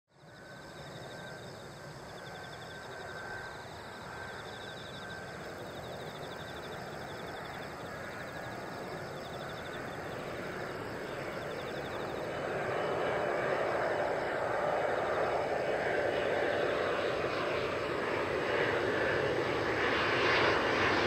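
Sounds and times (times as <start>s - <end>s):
jet aircraft rushing noise: 2.8s - 21.0s.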